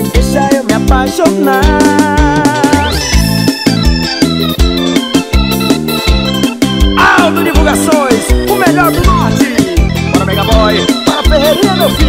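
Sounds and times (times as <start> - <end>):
electronic keyboard melody: 0.0 - 12.0
steady beat: 0.0 - 12.0
sustained bass: 0.0 - 12.0.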